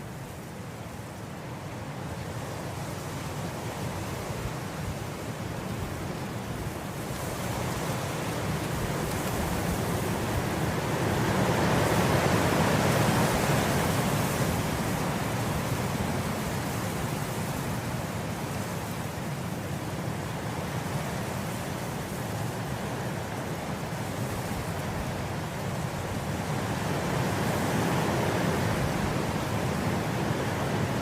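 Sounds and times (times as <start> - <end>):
wind blowing through grass: 0.0 - 31.0.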